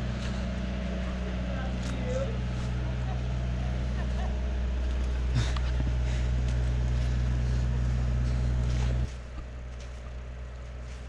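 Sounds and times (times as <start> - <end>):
engine running with low hum: 0.0 - 11.0
quieter low hum: 0.0 - 11.0.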